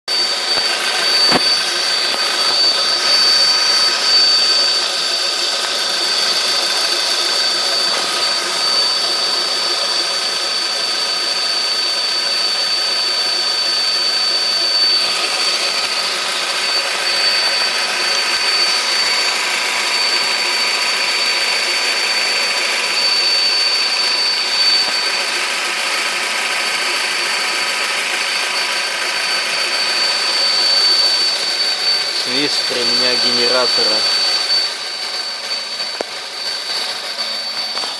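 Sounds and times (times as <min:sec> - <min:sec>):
high-pitched whistle under bonnet: 0:00.0 - 0:37.9
car engine running: 0:00.1 - 0:37.9.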